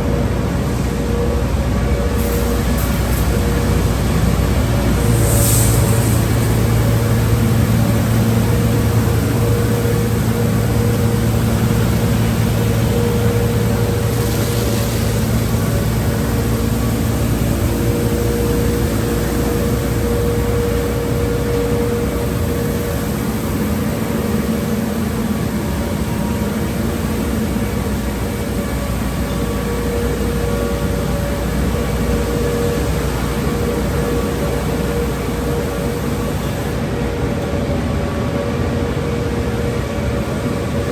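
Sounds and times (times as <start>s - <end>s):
machine hum of motors and pumps: 0.0s - 40.9s.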